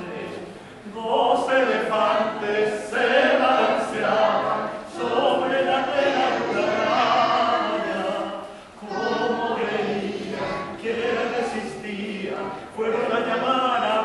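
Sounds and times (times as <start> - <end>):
men singing operatically: 0.0 - 14.0.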